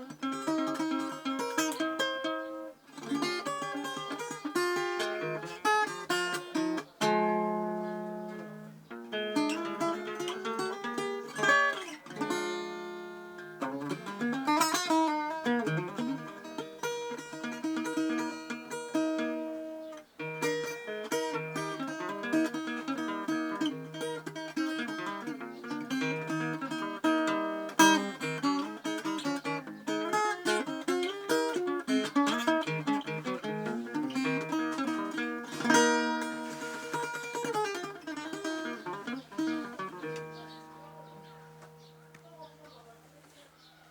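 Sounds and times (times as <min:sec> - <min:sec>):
guitar picking and strumming: 0:00.0 - 0:43.3.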